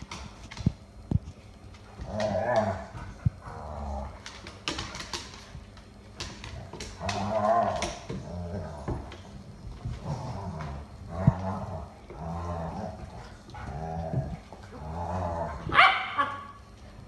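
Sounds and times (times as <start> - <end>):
dogs play-growling and snarling: 1.8 - 5.3, 6.2 - 16.3.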